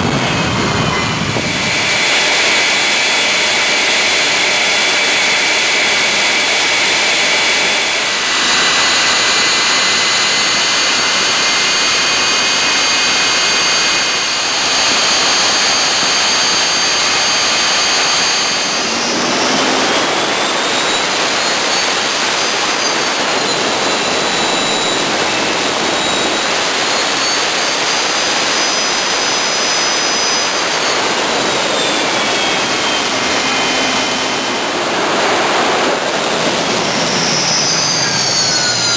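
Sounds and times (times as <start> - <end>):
turbojet roaring with high whine: 0.0 - 38.9.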